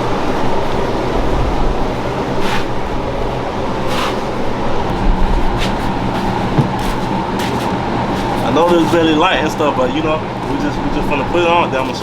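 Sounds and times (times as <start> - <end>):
background rumble: 0.0 - 11.3.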